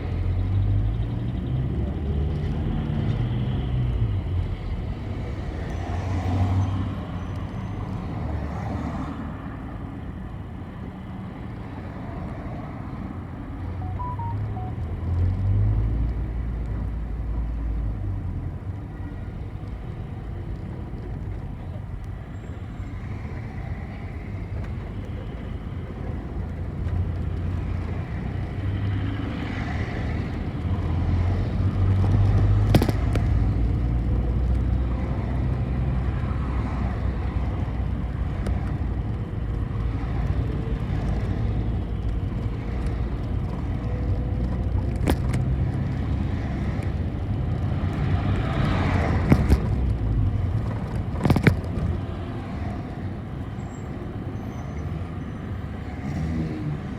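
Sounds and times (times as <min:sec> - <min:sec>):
bus engine and road rumble: 0:00.0 - 0:56.9.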